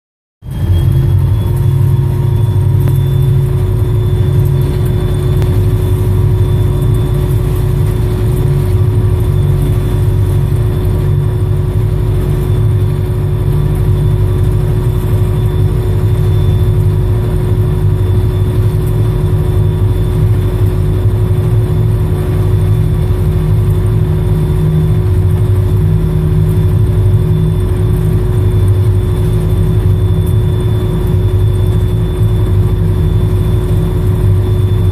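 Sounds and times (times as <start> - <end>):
locomotive engine rumble: 0.4 - 34.9
thin steady whine: 0.4 - 34.9.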